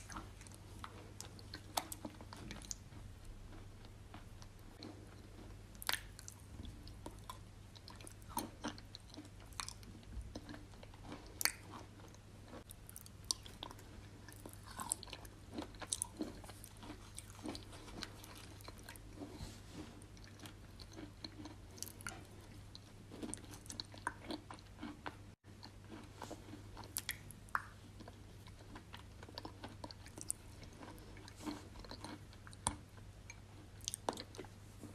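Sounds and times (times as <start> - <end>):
chewing crunches and clicks: 0.0 - 19.4, 20.0 - 34.6
low steady hum: 0.0 - 34.9.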